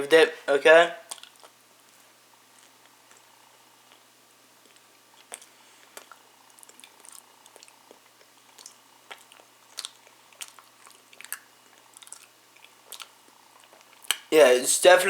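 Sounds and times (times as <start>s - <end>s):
person chewing crunchy food: 1.1s - 14.3s.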